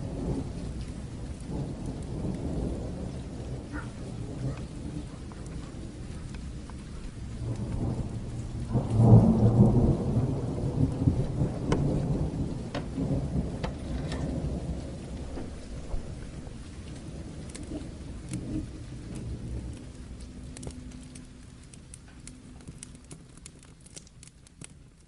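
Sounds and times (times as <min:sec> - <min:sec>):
fire crackling pops: 0:00.0 - 0:25.0
steady rain: 0:00.0 - 0:25.0
thunder rumble: 0:00.0 - 0:25.0.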